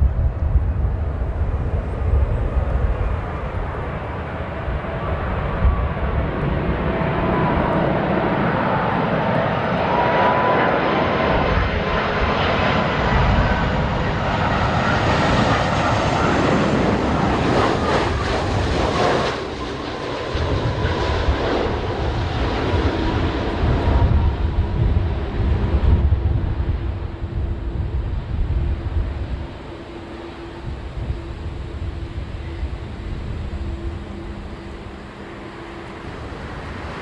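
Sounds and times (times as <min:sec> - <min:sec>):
jet engines whining and rumbling: 0:00.0 - 0:37.0.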